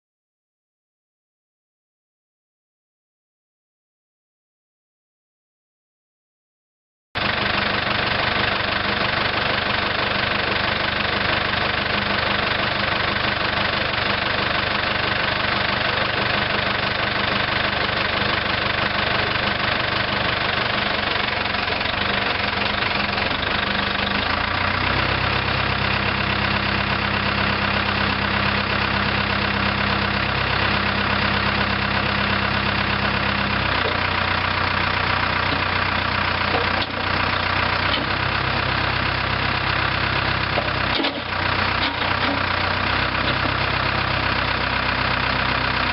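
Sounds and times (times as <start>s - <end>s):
diesel engine running: 7.2s - 45.9s.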